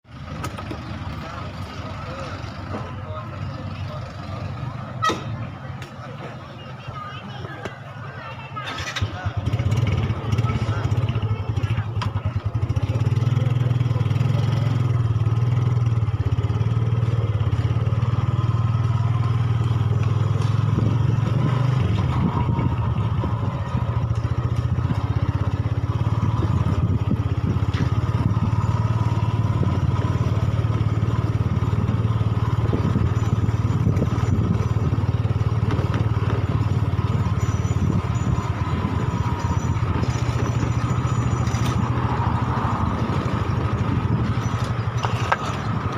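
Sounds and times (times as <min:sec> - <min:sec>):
motorcycle engine running: 0:00.1 - 0:45.9.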